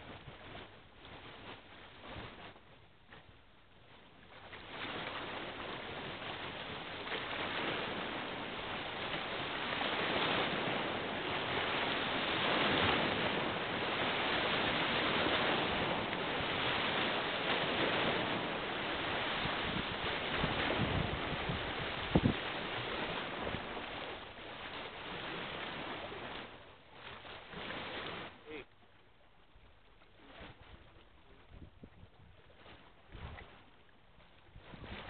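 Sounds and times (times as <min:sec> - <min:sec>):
wind: 0:00.0 - 0:35.0.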